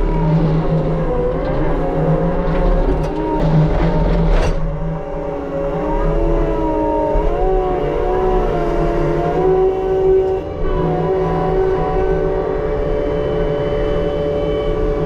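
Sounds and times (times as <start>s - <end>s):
skid steer machine drone: 0.0s - 15.0s.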